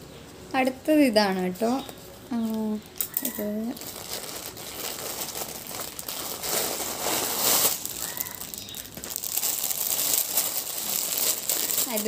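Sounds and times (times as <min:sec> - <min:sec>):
plastic packaging rustling: 0:01.4 - 0:12.0.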